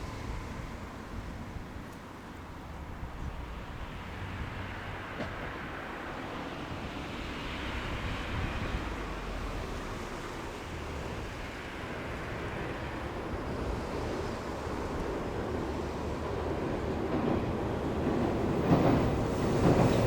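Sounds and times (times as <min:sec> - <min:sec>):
electric train approaching: 0:00.0 - 0:02.0, 0:03.9 - 0:20.0.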